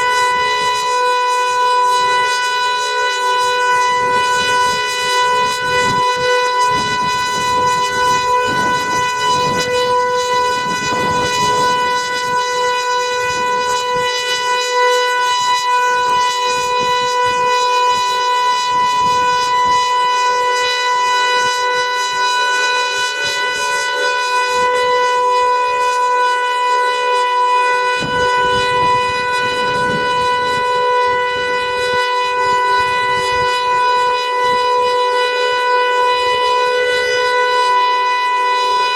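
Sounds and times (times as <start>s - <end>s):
siren steady tone: 0.0s - 38.9s.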